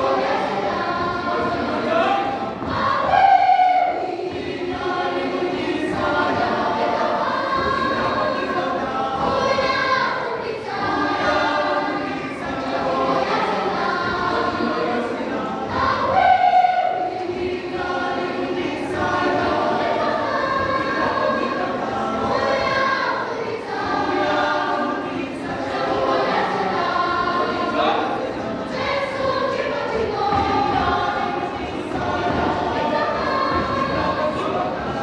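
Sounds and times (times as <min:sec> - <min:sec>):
children's choir singing: 0:00.0 - 0:35.0.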